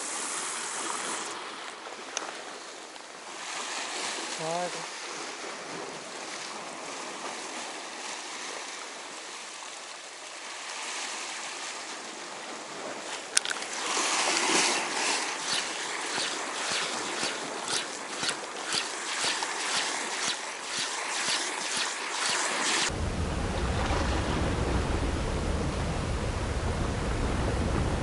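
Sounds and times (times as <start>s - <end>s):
sea water washing against rocks: 0.0s - 23.0s
water splashes: 0.0s - 25.1s.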